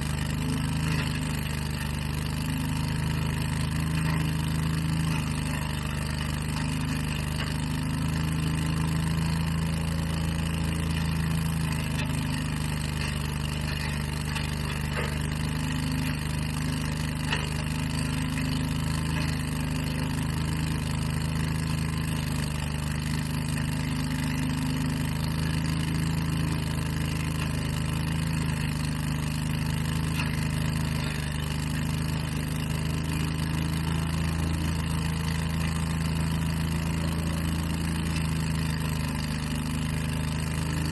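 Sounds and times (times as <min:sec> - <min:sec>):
engine running with low hum: 0:00.0 - 0:40.9.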